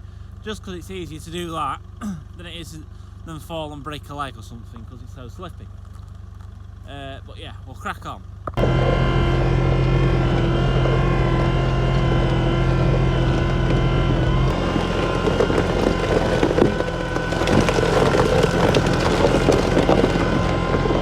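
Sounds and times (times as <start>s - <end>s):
diesel loader engine running: 0.0s - 21.0s.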